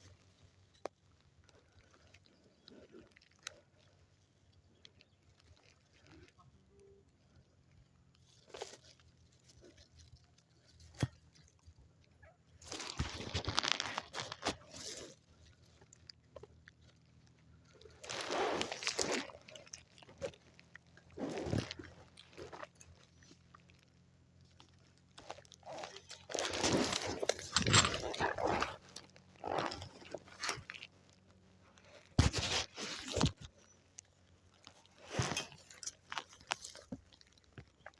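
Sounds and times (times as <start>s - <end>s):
dry leaves and brush crunching: 0.0s - 37.9s.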